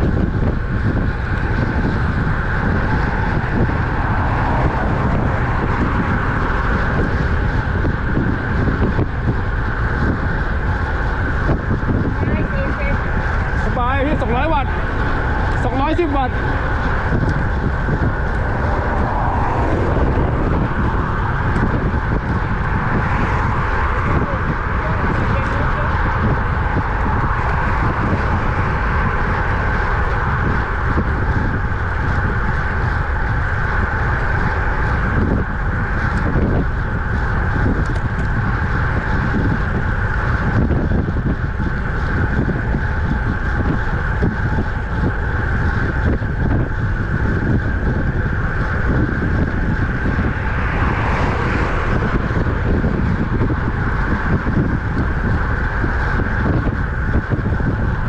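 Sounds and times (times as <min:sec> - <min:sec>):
constant higher hum: 0:00.0 - 0:58.0
wind rushing over microphone: 0:00.0 - 0:58.0.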